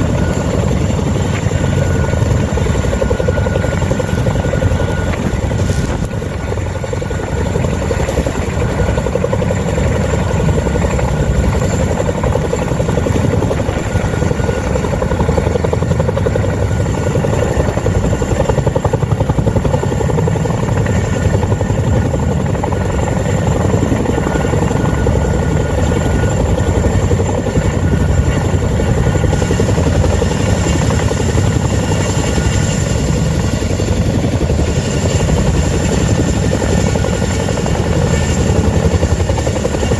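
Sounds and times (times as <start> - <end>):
helicopter rotor thrum: 0.0 - 39.9
high turbine whine: 0.0 - 39.9.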